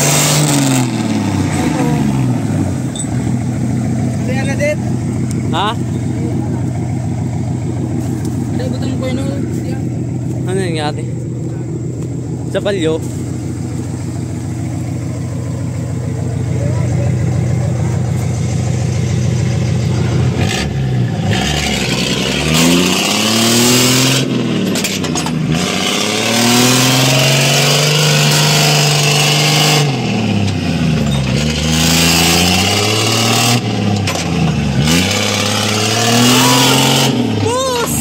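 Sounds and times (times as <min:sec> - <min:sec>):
truck engine straining: 0:00.0 - 0:38.0.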